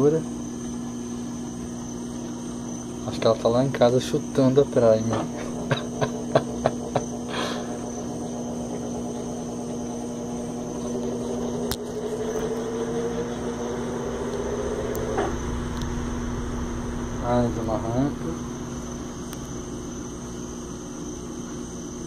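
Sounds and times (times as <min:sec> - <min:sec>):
washing machine motor hum and whine: 0:00.0 - 0:22.0.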